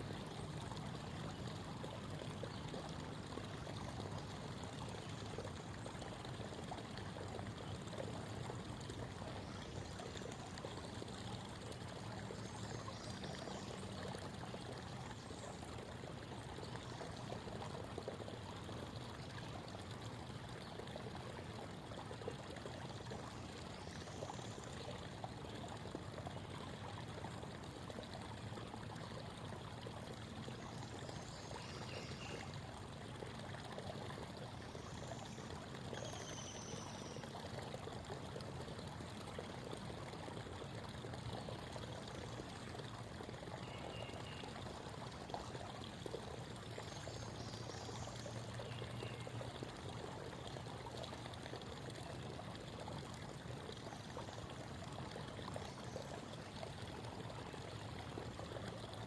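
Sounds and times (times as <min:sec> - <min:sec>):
creek babbling over stones: 0:00.0 - 0:59.0.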